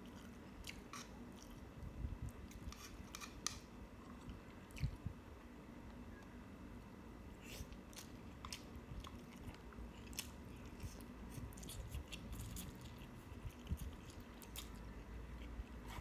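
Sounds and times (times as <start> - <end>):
person chewing food: 0.0 - 1.7, 2.3 - 5.1, 7.4 - 16.0.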